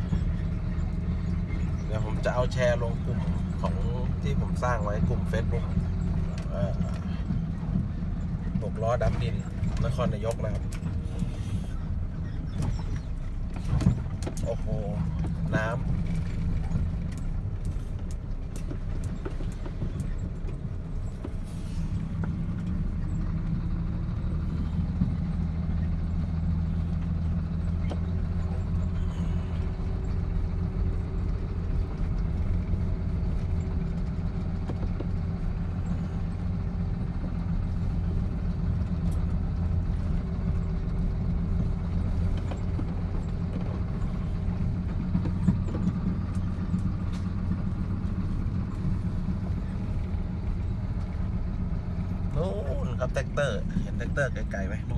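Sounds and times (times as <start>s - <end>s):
truck engine drone from cab: 0.0s - 54.9s.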